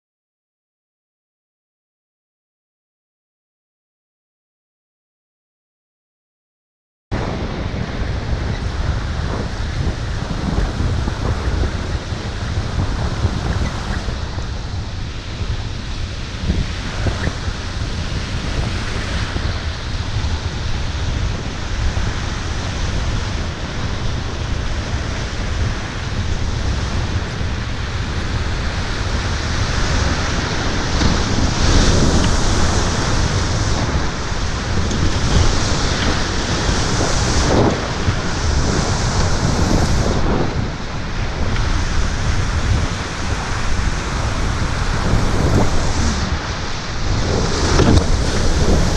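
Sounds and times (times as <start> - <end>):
wind buffeting microphone: 7.1 - 48.9
waves splashing: 7.2 - 48.9
whitewater rapid rushing: 8.7 - 48.9.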